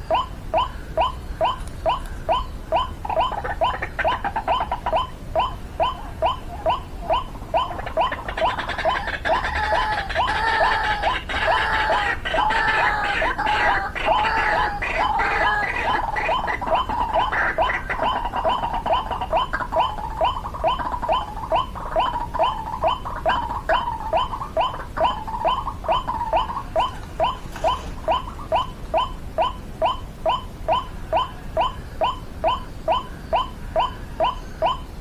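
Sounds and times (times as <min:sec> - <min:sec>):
bird calling rising notes: 0:00.0 - 0:35.0.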